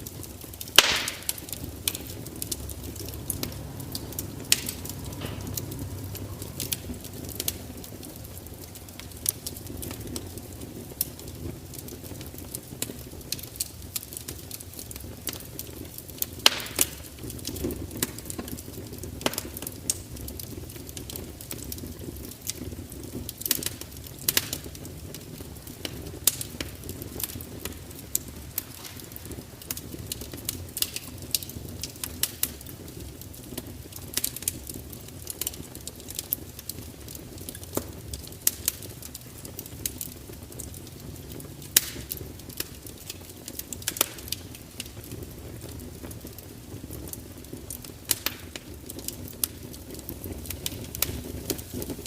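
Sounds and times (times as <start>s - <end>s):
fire popping and snapping: 0.0s - 52.0s
low rumble of flames: 0.0s - 52.0s
wood fire crackling: 0.0s - 52.0s.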